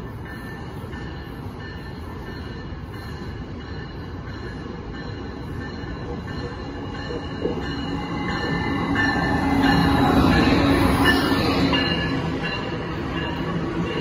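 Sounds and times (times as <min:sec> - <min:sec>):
train wheels rumbling past: 0:00.0 - 0:14.0.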